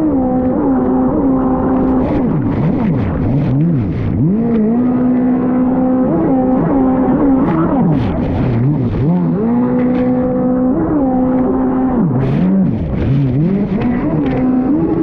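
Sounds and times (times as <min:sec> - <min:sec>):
dirt bike engine revving: 0:00.9 - 0:15.0.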